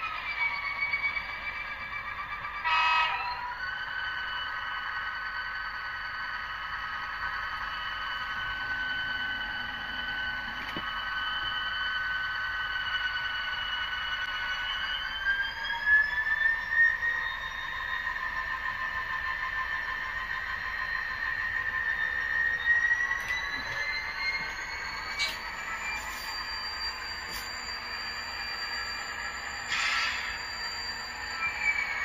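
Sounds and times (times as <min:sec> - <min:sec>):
model train motors whining: 0:00.0 - 0:32.0.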